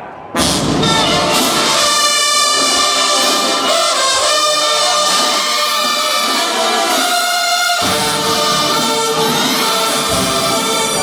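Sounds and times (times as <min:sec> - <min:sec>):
brass band playing chords: 0:00.0 - 0:11.0.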